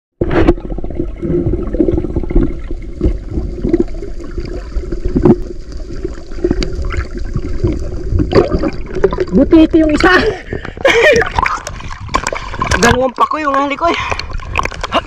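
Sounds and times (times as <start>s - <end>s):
muffled underwater water churning: 0.2s - 15.0s.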